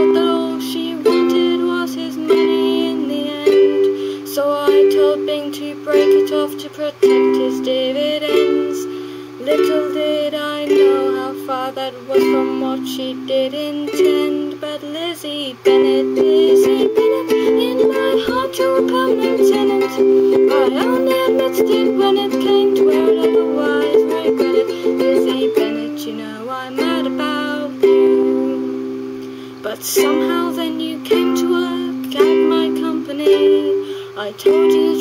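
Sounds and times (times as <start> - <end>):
ukulele strummed chords: 0.0 - 35.0
woman singing: 0.0 - 35.0.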